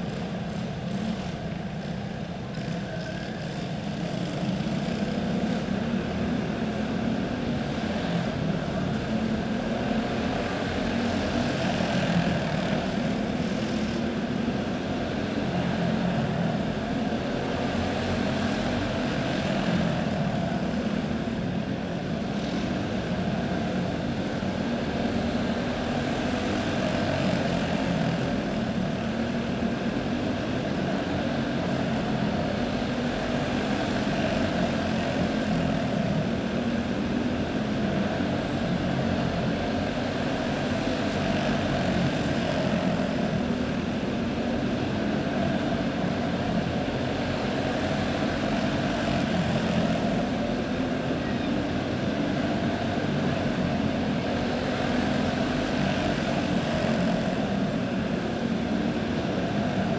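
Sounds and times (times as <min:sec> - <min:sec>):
kart engines buzzing drone: 0:00.0 - 0:59.9.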